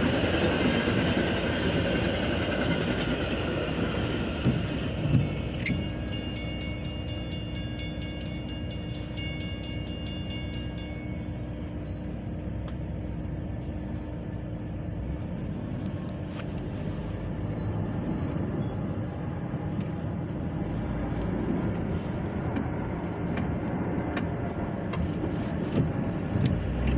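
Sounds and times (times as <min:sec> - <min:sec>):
train rumbling past: 0:00.0 - 0:26.9.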